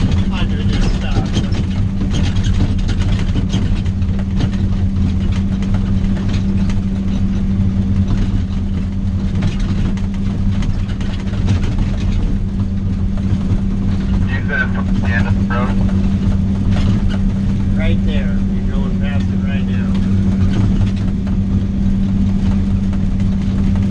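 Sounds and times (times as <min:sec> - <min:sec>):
knocks and rattles: 0:00.0 - 0:23.9
vehicle engine droning: 0:00.0 - 0:23.9.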